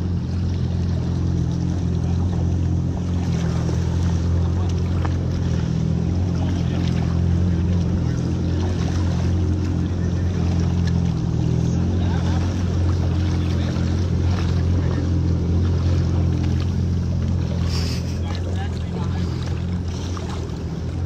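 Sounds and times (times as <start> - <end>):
jet ski engine idling: 0.0 - 21.0.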